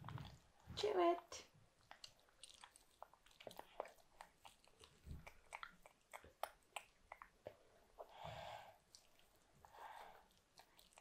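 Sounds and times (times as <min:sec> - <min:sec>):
mouth clicks and smacks: 0:00.0 - 0:00.6, 0:01.7 - 0:08.1, 0:08.8 - 0:11.0
child chewing: 0:00.0 - 0:00.7, 0:01.6 - 0:11.0.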